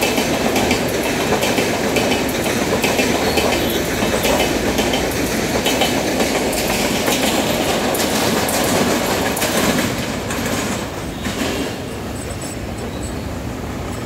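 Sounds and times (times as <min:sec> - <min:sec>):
wheels clattering over rail joints: 0:00.0 - 0:13.0
train rolling past: 0:00.0 - 0:14.0.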